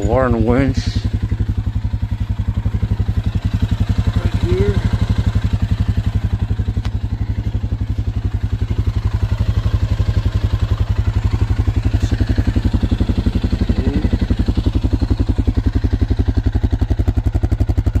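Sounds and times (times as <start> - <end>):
atv engine idling: 0.0 - 18.0.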